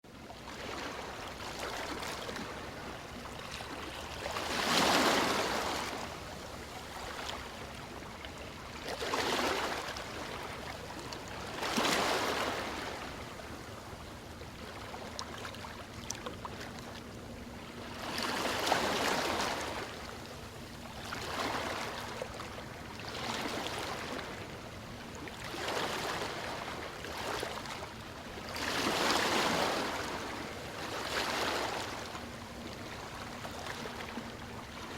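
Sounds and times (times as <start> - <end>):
ocean waves breaking: 0.5 - 13.5, 17.6 - 20.2, 21.0 - 24.6, 25.2 - 34.9.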